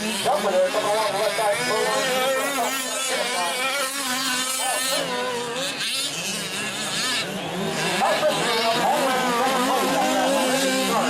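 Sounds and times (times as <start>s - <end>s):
small two-stroke engines buzzing: 0.0s - 11.0s.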